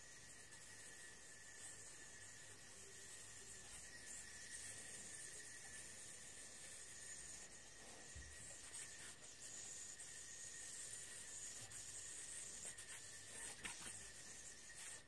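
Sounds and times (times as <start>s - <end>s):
faint steady hiss: 0.0s - 15.0s
yoyo string rubbing and ticking: 0.0s - 15.0s.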